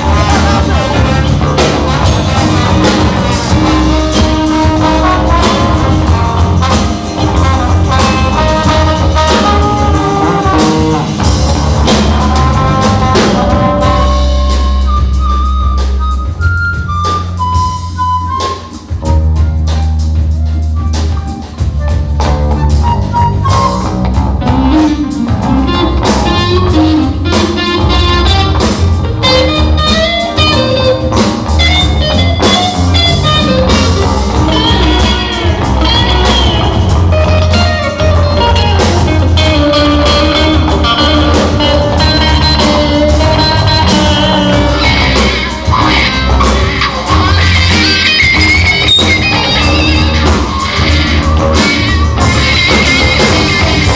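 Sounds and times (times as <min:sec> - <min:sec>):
bass: 0:00.0 - 0:53.9
drum kit: 0:00.0 - 0:53.9
lead melody line: 0:00.0 - 0:53.9.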